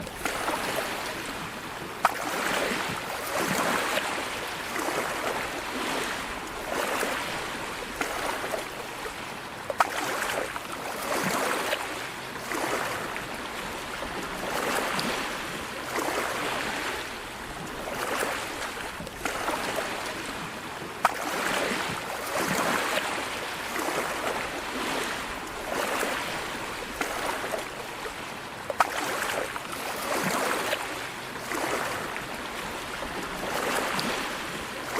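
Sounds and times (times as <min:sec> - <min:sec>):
sea waves washing ashore: 0:00.0 - 0:34.9.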